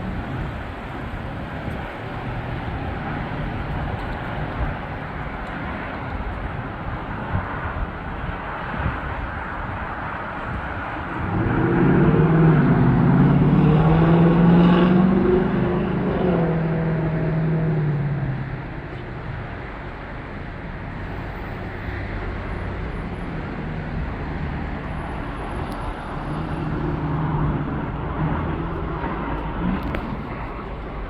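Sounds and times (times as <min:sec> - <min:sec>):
road noise: 0:00.0 - 0:31.0.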